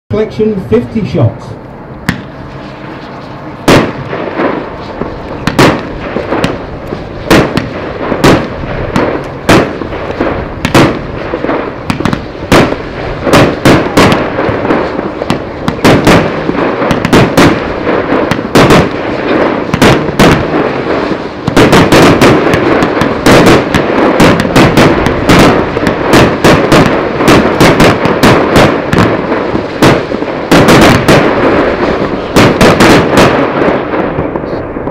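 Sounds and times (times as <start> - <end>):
firework shots and bursts: 2.0 - 34.9
firework crackle: 2.1 - 34.9.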